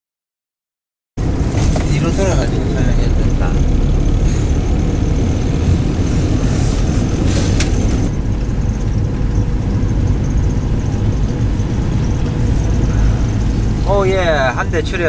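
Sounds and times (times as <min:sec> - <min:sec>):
vehicle engine and road rumble: 0:01.2 - 0:15.0.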